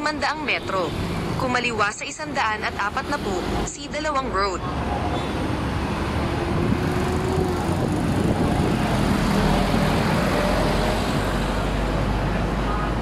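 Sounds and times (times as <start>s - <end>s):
motor vehicles passing: 0.0s - 13.0s.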